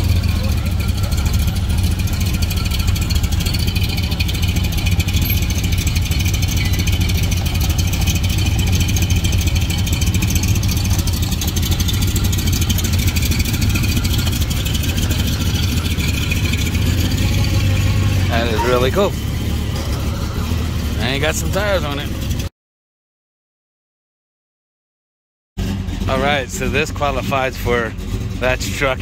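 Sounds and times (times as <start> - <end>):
engine idling: 0.0 - 22.5, 25.6 - 29.0.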